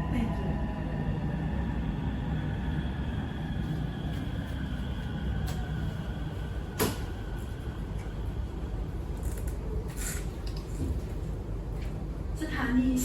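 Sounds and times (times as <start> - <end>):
low hum inside train: 0.0 - 13.0.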